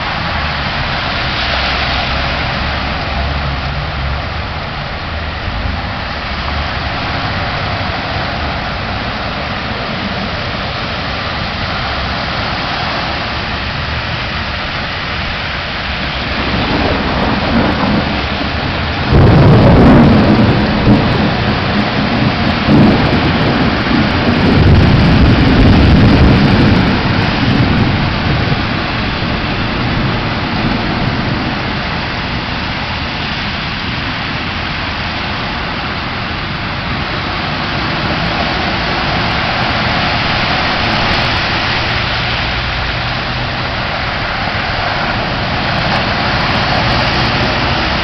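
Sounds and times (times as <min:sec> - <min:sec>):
deep thunder rumble: 0:00.0 - 0:48.0
heavy rain hissing: 0:00.0 - 0:48.0.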